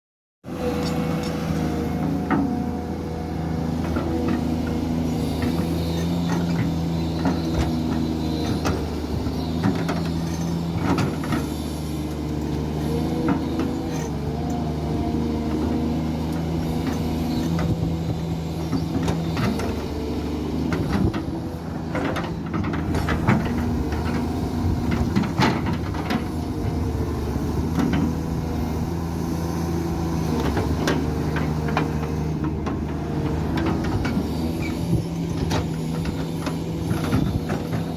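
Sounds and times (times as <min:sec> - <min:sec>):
excavator diesel engine working: 0:00.5 - 0:37.9.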